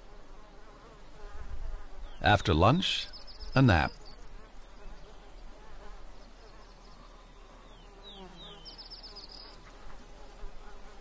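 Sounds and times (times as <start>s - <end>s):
flies buzzing: 0.0s - 11.0s.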